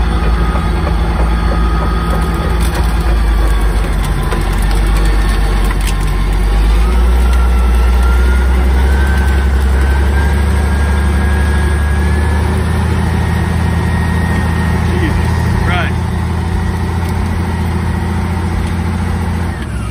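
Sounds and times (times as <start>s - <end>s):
bulldozer diesel engine running: 0.0s - 19.9s
thin rising whine: 0.0s - 19.9s.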